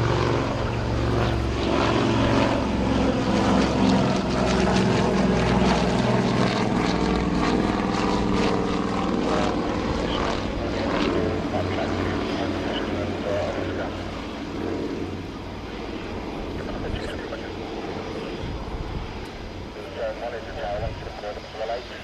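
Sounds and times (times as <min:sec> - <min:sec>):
propeller plane engines running: 0:00.0 - 0:22.0.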